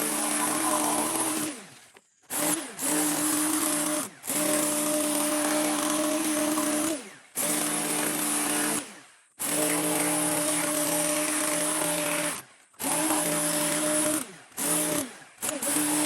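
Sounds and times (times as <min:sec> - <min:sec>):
power tool motor running: 0:00.0 - 0:16.0.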